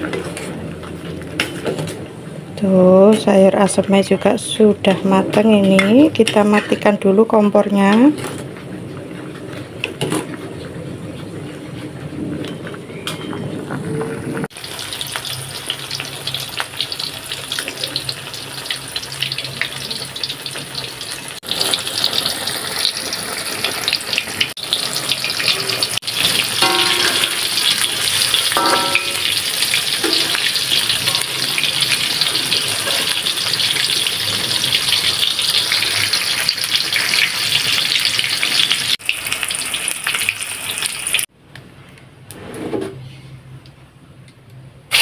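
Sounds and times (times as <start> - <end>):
food deep-frying in oil: 0.0 - 41.3.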